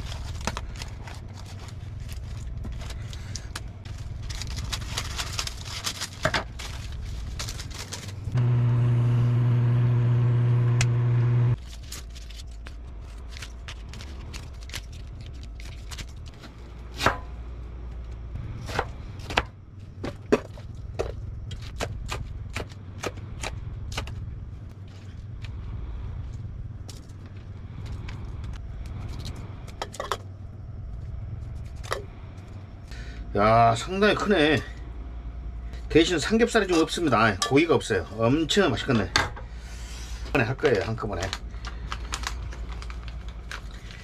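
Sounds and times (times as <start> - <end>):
loud steady hum: 0.0 - 44.0.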